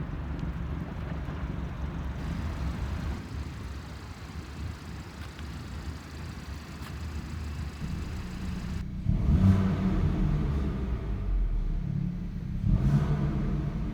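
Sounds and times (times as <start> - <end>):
car engine running at low revs: 0.2 - 13.9.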